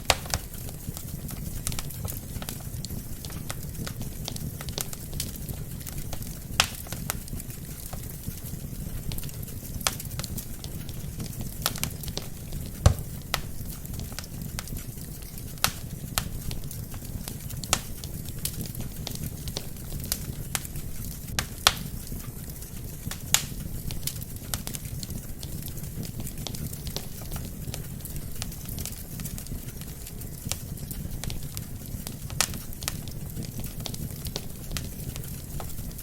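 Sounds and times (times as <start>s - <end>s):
logs crackling and popping: 0.0s - 36.0s
low rumble of flames: 0.0s - 36.0s.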